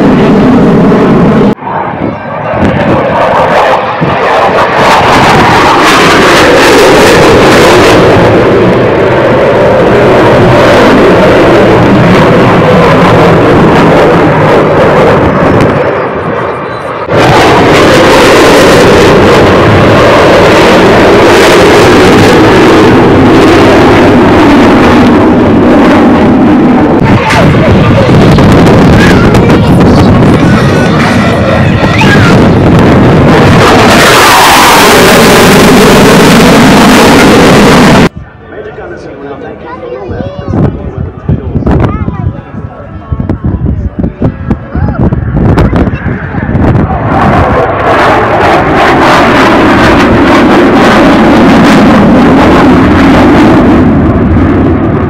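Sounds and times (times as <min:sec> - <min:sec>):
fighter jet flying past: 0:00.0 - 0:55.0.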